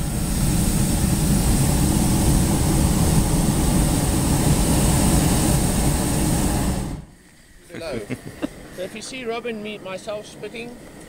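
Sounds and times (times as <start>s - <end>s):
propane burner blast: 0.0s - 11.0s.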